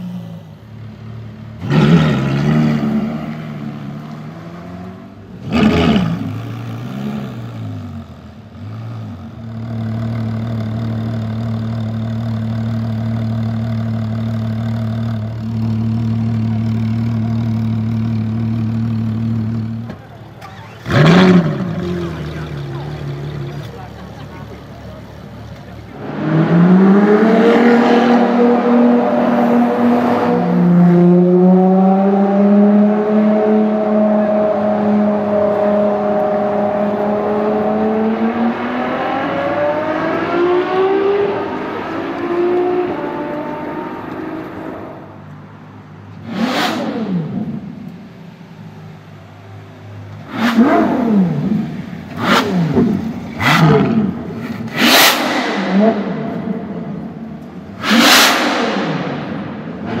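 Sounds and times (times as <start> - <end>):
sports car engine revving: 1.6 - 45.2, 46.1 - 48.1, 50.1 - 60.0.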